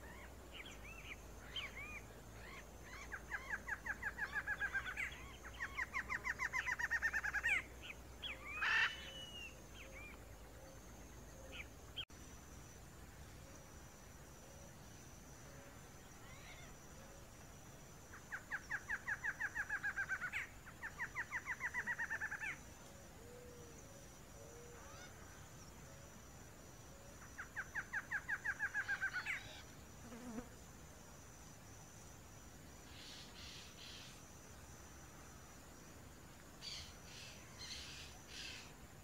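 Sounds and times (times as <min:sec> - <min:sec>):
faint high-pitched hum: 0:00.0 - 0:39.0.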